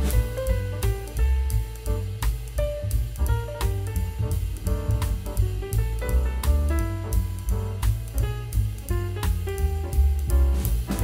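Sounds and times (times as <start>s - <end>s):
instrumental music with drums and bass: 0.0s - 11.0s.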